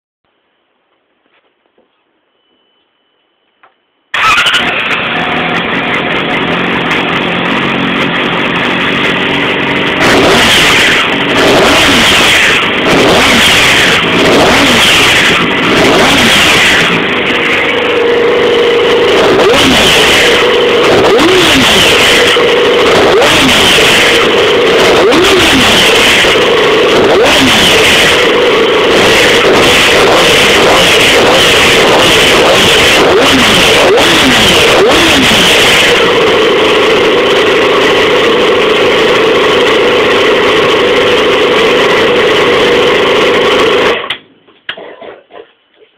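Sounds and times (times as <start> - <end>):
motorcycle engine revving: 4.2 - 44.1.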